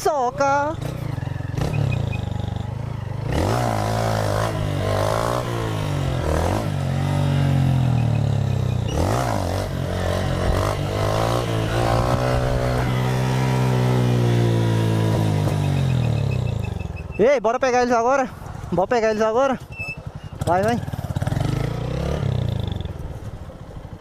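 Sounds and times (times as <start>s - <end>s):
motorcycle engines revving and passing: 0.0s - 24.0s.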